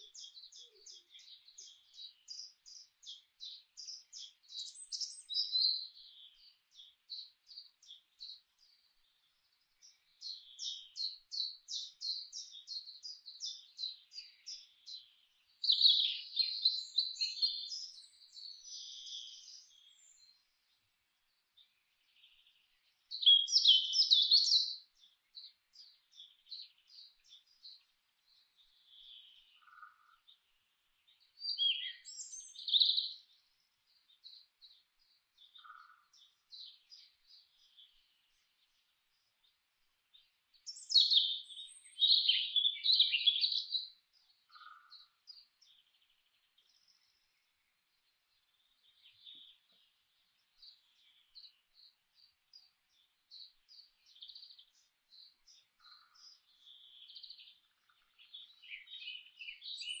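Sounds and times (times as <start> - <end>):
songbirds chirping and singing: 0.0 - 60.0.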